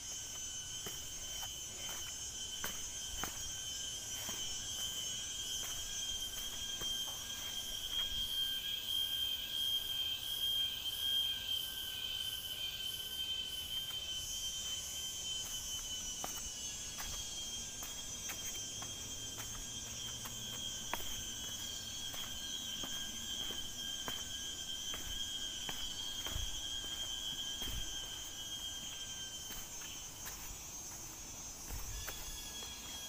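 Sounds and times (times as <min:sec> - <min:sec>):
footsteps on a trail: 0:00.0 - 0:08.4, 0:13.7 - 0:33.0
insects shrilling: 0:00.0 - 0:33.0.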